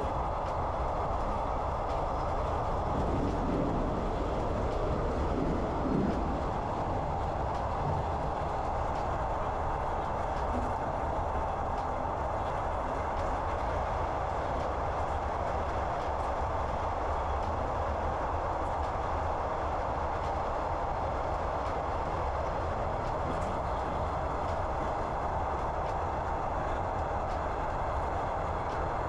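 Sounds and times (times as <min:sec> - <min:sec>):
train wheels rolling on rail: 0:00.0 - 0:29.0.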